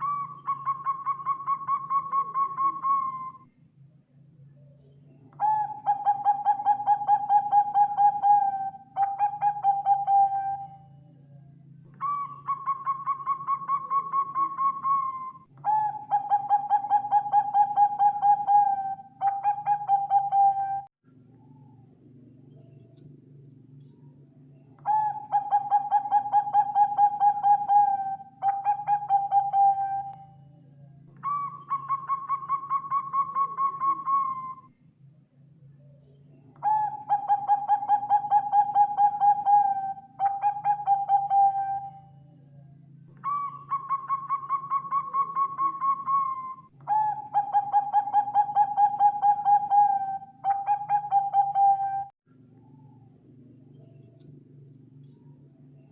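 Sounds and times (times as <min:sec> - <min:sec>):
dove cooing: 0:00.0 - 0:03.4, 0:05.3 - 0:21.6, 0:24.8 - 0:34.7, 0:36.6 - 0:52.1
faint low hum: 0:00.0 - 0:55.9.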